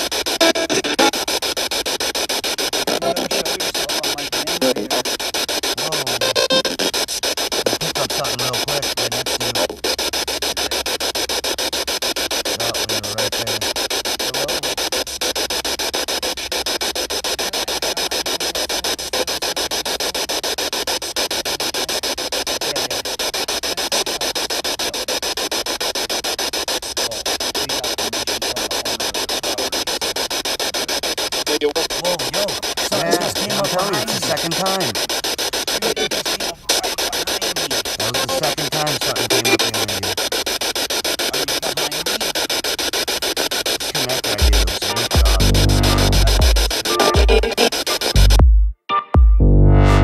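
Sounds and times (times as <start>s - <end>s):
static hiss with rapid flutter: 0.0s - 48.5s.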